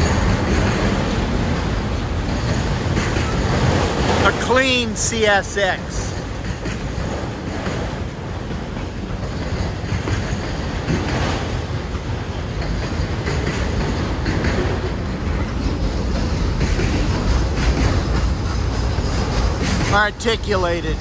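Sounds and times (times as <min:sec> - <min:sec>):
steel wheels rumbling on rail: 0:00.0 - 0:21.0
wheels clacking over rail joints: 0:00.0 - 0:21.0.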